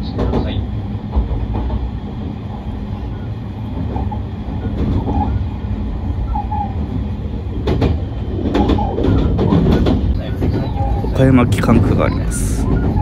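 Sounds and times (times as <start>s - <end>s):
rail joint clacks: 0.0s - 13.0s
train wheels rumbling on rail: 0.0s - 13.0s.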